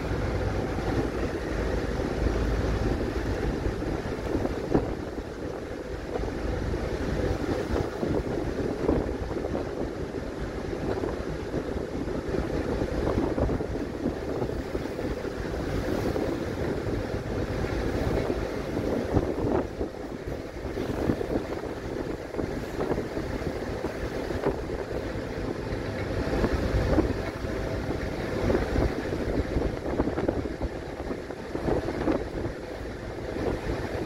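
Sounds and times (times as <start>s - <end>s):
choppy water washing: 0.0s - 34.0s
deep rumble: 0.0s - 34.0s
wind buffeting microphone: 0.0s - 34.0s.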